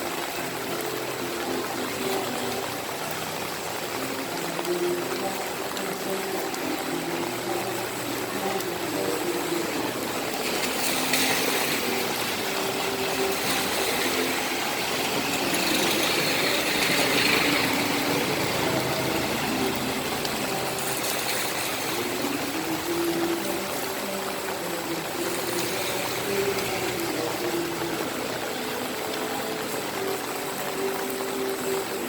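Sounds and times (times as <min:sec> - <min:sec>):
rain hiss: 0:00.0 - 0:32.0
vehicle passing on wet street: 0:00.0 - 0:32.0.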